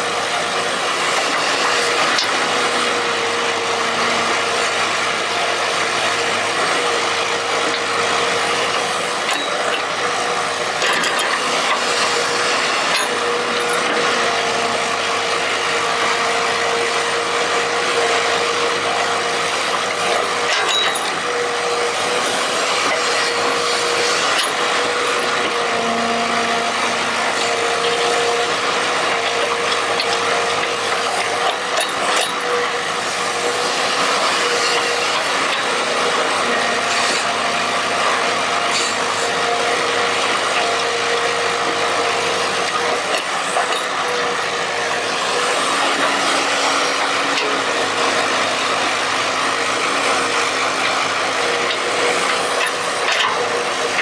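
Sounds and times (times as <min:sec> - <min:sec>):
scraping grinding noise: 0:00.0 - 0:15.9, 0:16.8 - 0:54.0
electric motors whirring: 0:00.0 - 0:54.0.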